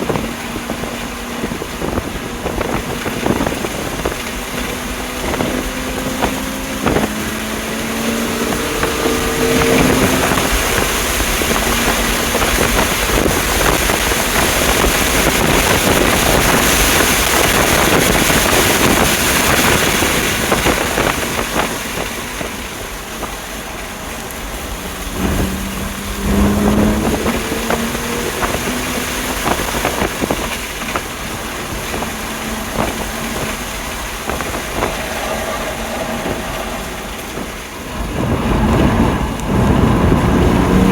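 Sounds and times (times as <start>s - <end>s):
car engine pulling hard: 0.0s - 40.9s
wind and road noise: 0.0s - 40.9s.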